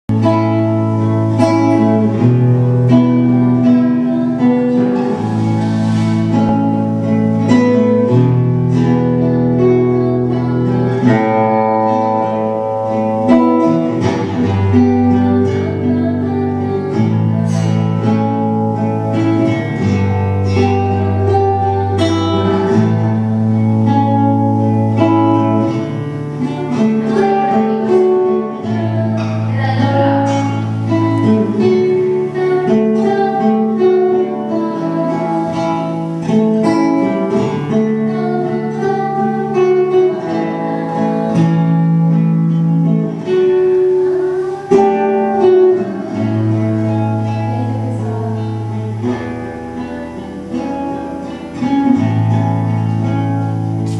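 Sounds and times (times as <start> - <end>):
acoustic guitar chords: 0.0 - 53.9.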